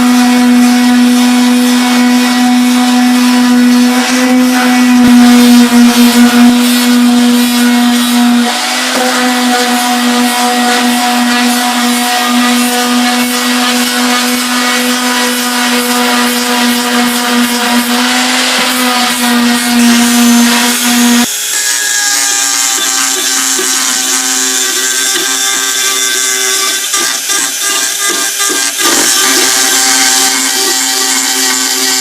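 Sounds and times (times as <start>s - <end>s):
shop vac motor whining: 0.0s - 32.0s
wavering pitched sound: 0.0s - 32.0s.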